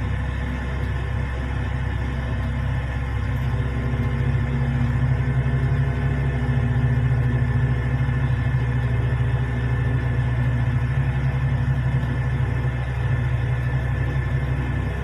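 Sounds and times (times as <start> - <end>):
heavy diesel engines droning: 0.0 - 15.0.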